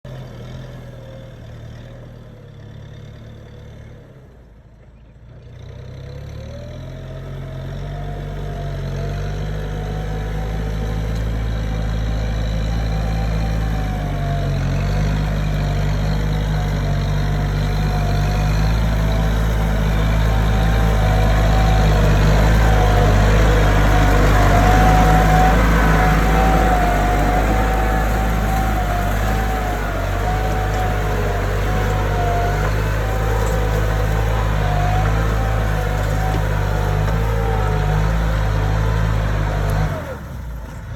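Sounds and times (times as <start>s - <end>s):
tractor engines running: 4.8s - 40.9s.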